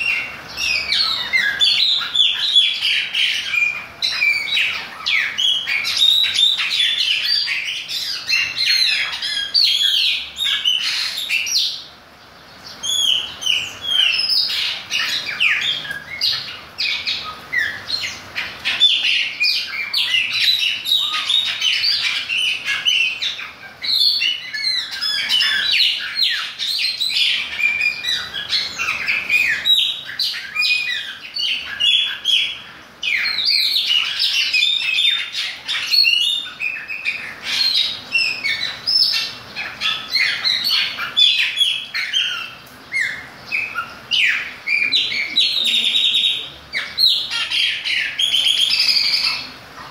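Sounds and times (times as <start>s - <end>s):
blackbird singing: 0.0s - 49.9s.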